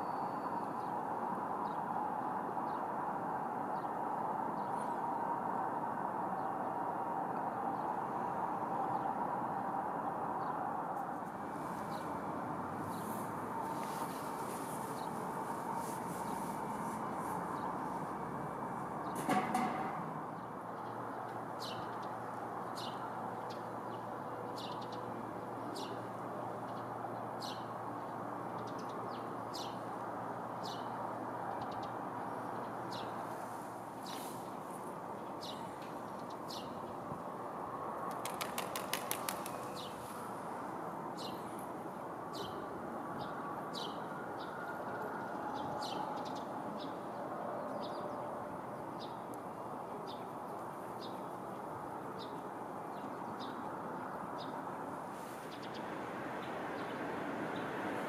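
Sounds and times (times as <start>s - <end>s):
city traffic hum: 0.0s - 58.0s.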